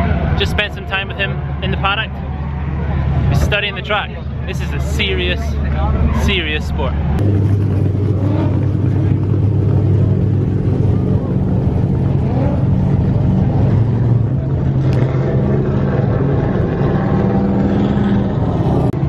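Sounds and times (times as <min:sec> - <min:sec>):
car engine idling: 0:00.0 - 0:17.6.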